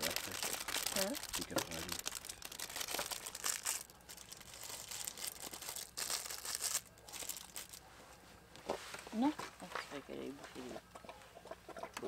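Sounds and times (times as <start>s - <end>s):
rustling and crinkling: 0.0s - 11.8s.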